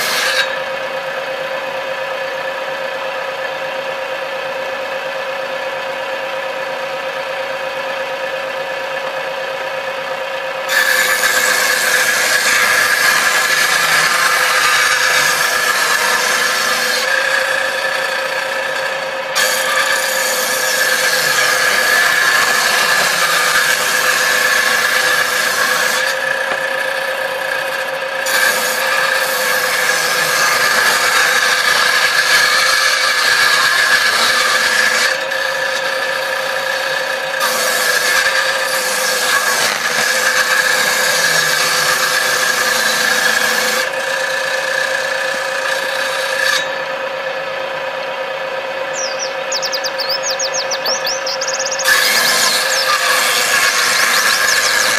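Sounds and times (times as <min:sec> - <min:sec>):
saw cutting wooden strips: 0:00.0 - 0:03.0, 0:10.1 - 0:54.9
table saw blade whine: 0:00.0 - 0:54.9.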